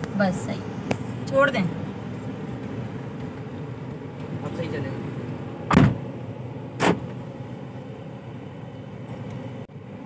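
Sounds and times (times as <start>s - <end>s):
road and engine noise in car: 0.0s - 10.0s.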